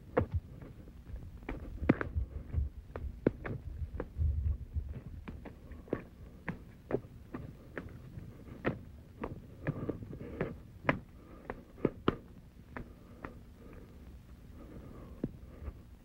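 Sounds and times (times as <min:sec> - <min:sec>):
footsteps on dirt and stones: 0:00.0 - 0:13.8
faint low hum: 0:00.0 - 0:16.0.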